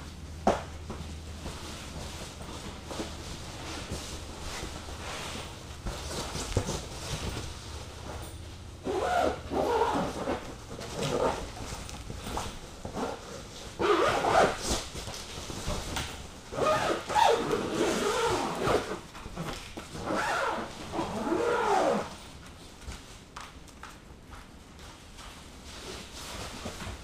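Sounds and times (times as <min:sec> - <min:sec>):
bed cover rubbing and squeaking: 0:00.4 - 0:22.4.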